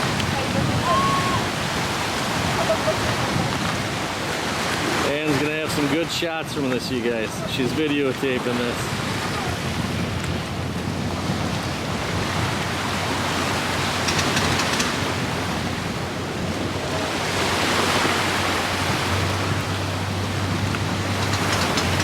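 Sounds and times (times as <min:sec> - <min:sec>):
sea water washing: 0:00.0 - 0:22.0
wind buffeting microphone: 0:00.0 - 0:22.0.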